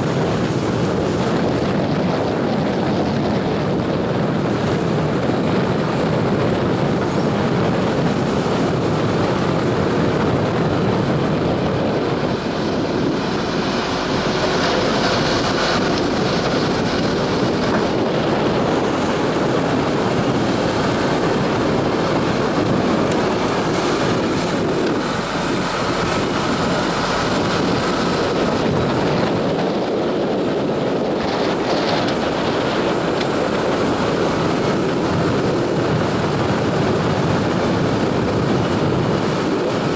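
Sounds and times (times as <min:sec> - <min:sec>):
excavator running: 0:00.0 - 0:39.9
water churning: 0:00.0 - 0:39.9
wind on microphone: 0:00.0 - 0:39.9.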